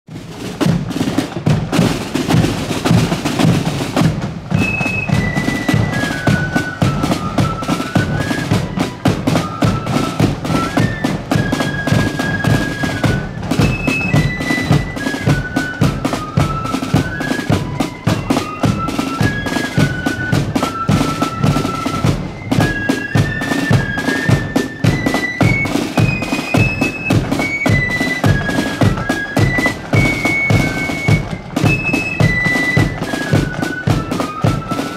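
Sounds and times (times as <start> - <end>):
snare drums: 0.1 - 34.9
flutes playing melody: 0.2 - 34.9.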